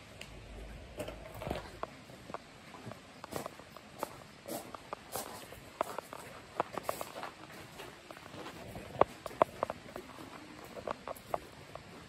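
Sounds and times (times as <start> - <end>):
faint steady hiss: 0.0 - 12.0
footsteps on a path: 1.2 - 12.0.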